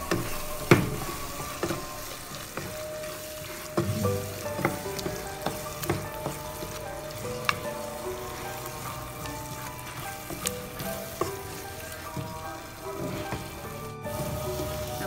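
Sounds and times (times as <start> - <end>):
masala sizzling in a pan: 0.0 - 15.0
spatula stirring and scraping: 0.0 - 15.0.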